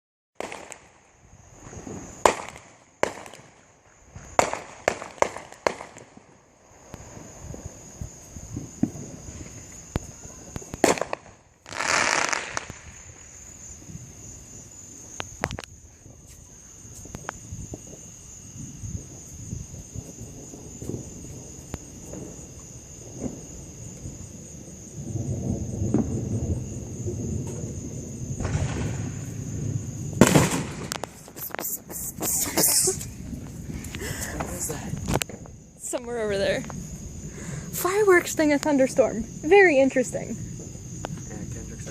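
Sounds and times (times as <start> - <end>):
firework bangs: 0.4 - 16.2, 17.1 - 35.6
fireworks crackling: 0.4 - 41.9.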